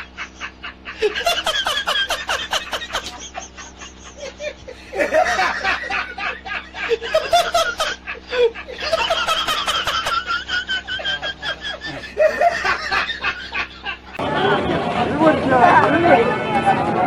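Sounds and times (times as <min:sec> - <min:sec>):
person laughing: 0:00.0 - 0:14.2.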